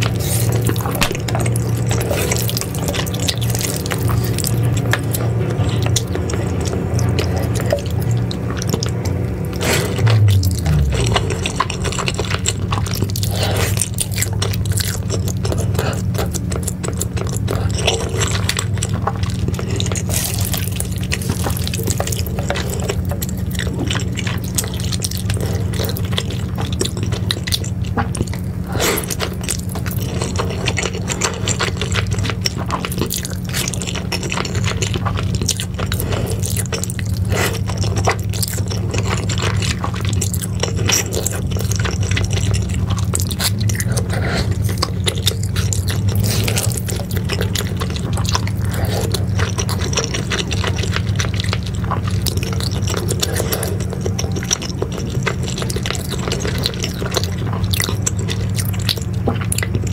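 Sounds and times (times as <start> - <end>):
slurping and chewing noodles: 0.0 - 59.9
steady low hum: 0.0 - 59.9.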